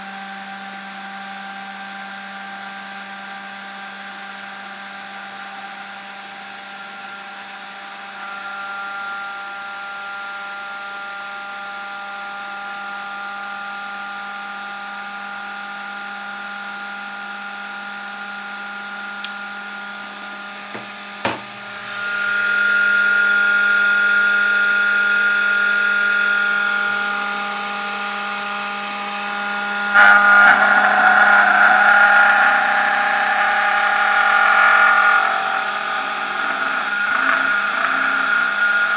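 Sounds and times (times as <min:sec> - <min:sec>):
high-speed rotor whine: 0:00.0 - 0:38.9.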